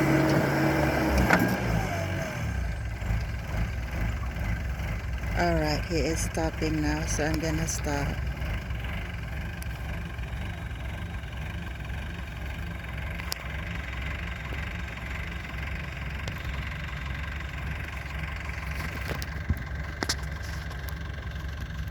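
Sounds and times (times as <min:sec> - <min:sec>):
construction machine engine idling: 0:00.0 - 0:21.9.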